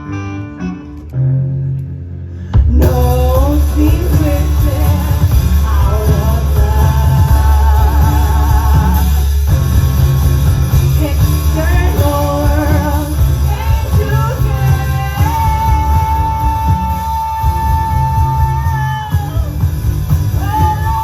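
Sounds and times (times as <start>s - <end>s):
rock band playing live: 2.3s - 21.0s.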